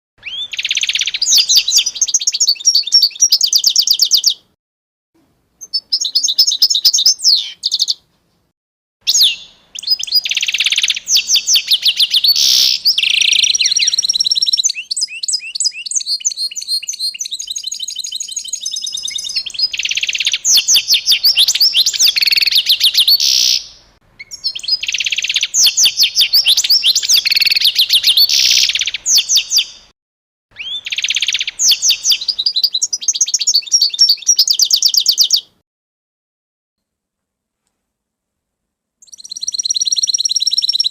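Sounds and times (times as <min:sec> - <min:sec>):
songbird singing trills: 0:00.2 - 0:04.5, 0:05.6 - 0:08.0, 0:09.1 - 0:29.9, 0:30.5 - 0:35.6, 0:39.0 - 0:40.9.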